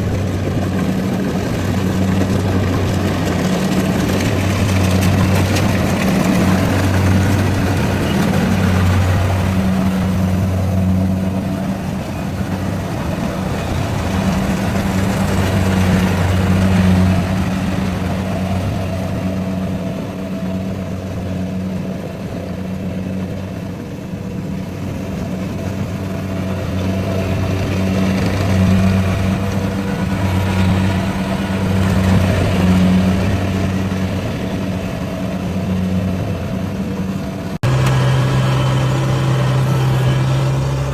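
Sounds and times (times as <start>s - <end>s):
harvester engine droning: 0.0s - 40.9s.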